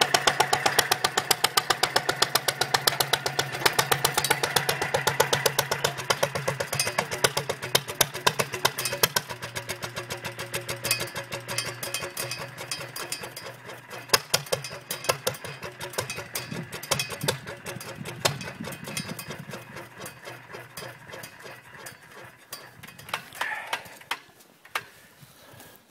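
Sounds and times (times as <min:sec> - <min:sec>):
small engine clattering: 0:00.0 - 0:25.0.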